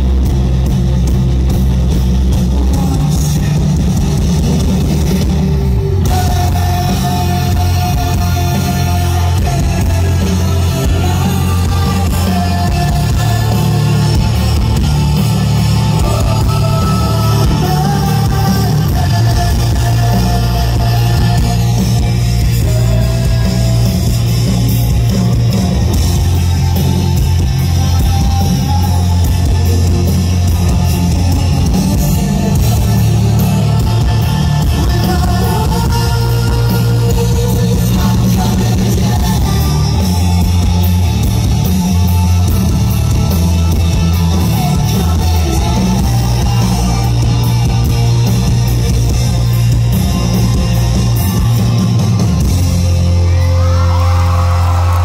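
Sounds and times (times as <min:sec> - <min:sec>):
bass guitar: 0:00.0 - 0:55.0
drums: 0:00.0 - 0:55.0
electric guitars: 0:00.0 - 0:55.0
person singing: 0:05.9 - 0:52.2.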